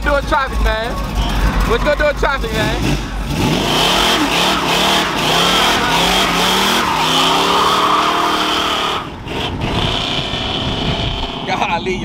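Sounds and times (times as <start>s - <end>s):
tires squealing: 0.0s - 11.6s
car engine revving: 0.0s - 12.0s.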